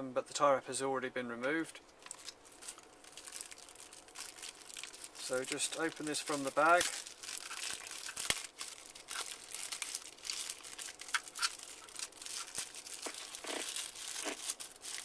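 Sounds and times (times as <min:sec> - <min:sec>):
plastic bag crinkling: 0:02.0 - 0:15.0.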